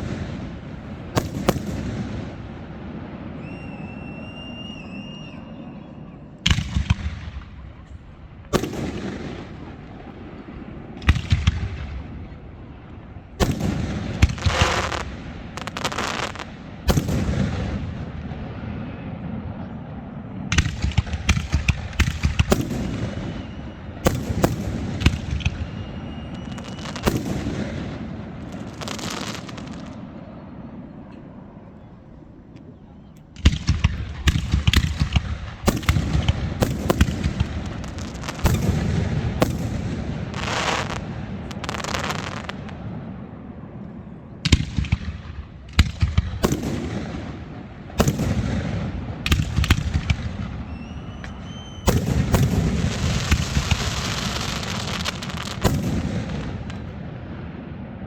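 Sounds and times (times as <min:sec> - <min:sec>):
crackling firework bangs: 0:00.0 - 0:05.3, 0:06.4 - 0:12.7, 0:13.4 - 0:19.3, 0:20.5 - 0:30.2, 0:33.4 - 0:43.4, 0:44.4 - 0:58.0
fireworks banging with echoes: 0:00.0 - 0:31.6, 0:32.2 - 0:58.0.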